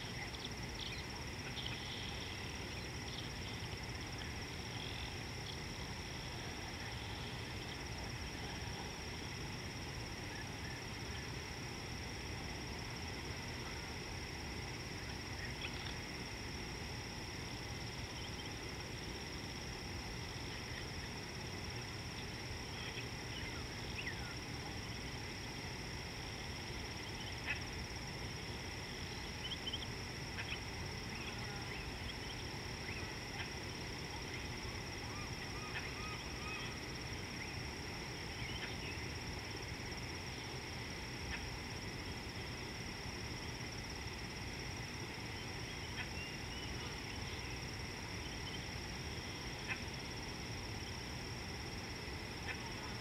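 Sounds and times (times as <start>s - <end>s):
high insect drone: 0.0s - 53.0s.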